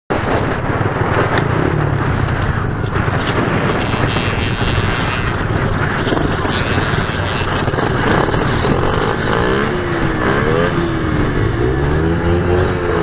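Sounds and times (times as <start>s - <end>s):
pit bike engine running: 0.1s - 13.0s.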